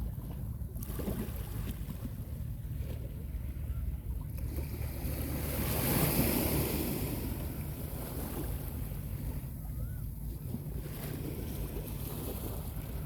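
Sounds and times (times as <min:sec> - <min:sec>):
small waves washing up a beach: 0:00.0 - 0:13.0
wind rumble on microphone: 0:00.0 - 0:13.0.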